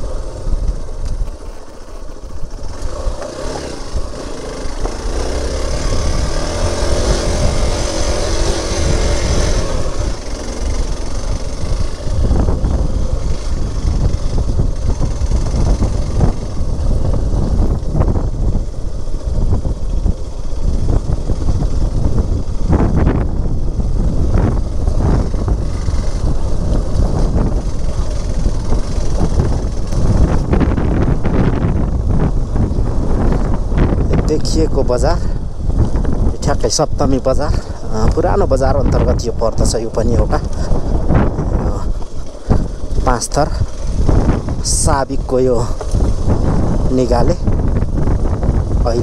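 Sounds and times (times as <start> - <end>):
motorcycle engine running: 0.0 - 49.0
wind buffeting microphone: 0.0 - 49.0.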